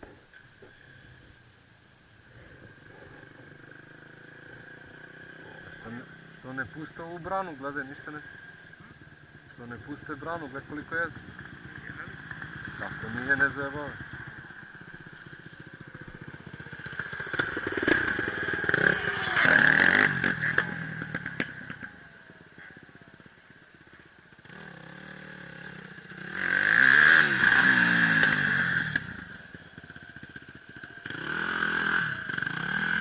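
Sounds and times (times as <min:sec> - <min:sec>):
motorcycle engines revving: 0:00.0 - 0:01.4, 0:02.1 - 0:33.0.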